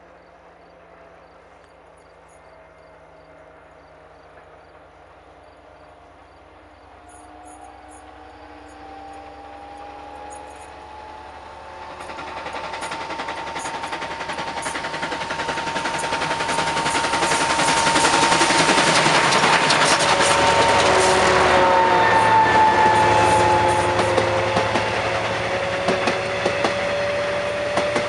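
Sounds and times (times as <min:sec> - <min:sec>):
steam locomotive exhaust beats: 0:00.0 - 0:28.0
train coaches running past: 0:00.0 - 0:28.0.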